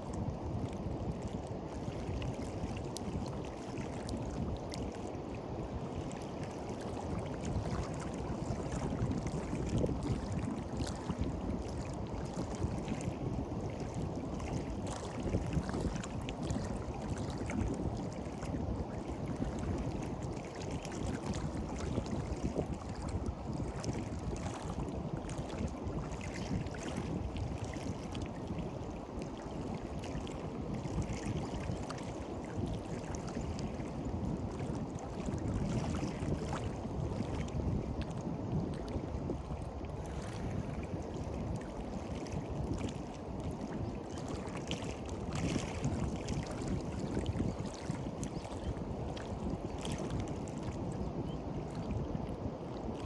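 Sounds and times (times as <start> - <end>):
sea surf washing on beach: 0.0 - 48.3
wind rumbling on microphone: 0.0 - 53.0.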